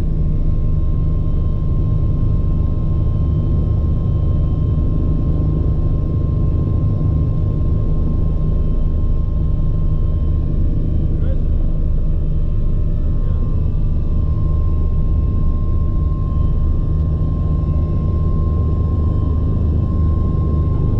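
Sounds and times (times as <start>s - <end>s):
helicopter engine and rotor drone: 0.0s - 20.9s
helicopter turbine whine: 0.0s - 20.9s.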